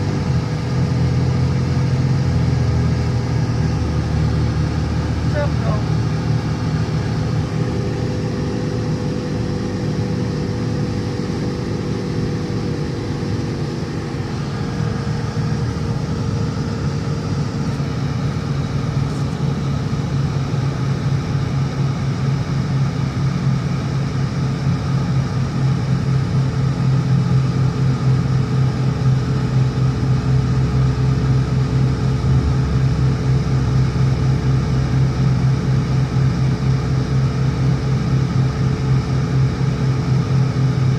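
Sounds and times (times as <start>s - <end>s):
car engine drone: 0.0s - 40.9s.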